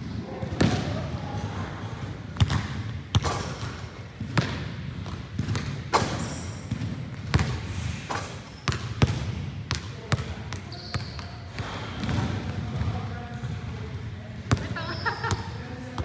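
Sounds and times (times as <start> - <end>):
basketball bouncing on gym floor: 0.0 - 1.6, 2.3 - 16.0.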